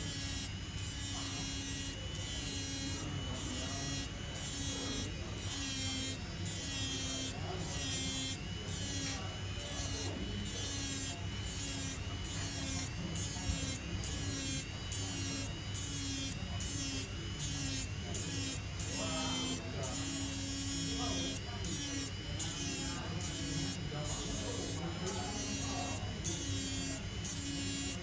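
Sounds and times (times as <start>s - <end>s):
electric grinding pen buzzing: 0.0s - 28.0s.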